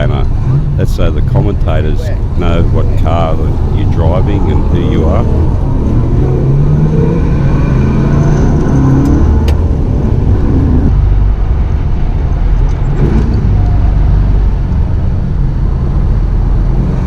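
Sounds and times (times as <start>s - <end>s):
car engine running loudly: 0.0s - 17.0s.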